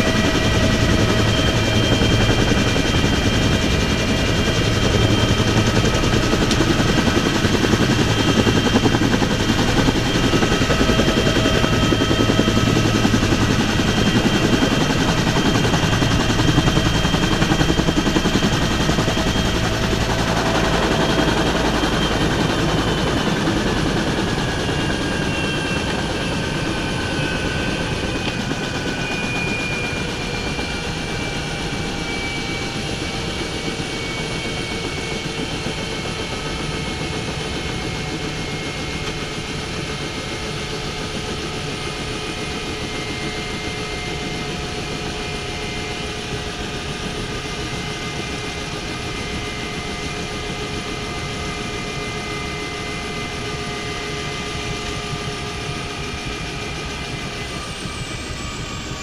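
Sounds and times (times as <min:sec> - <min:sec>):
helicopter rotor low rumble: 0:00.0 - 0:59.0
helicopter turbine whine: 0:00.0 - 0:59.0.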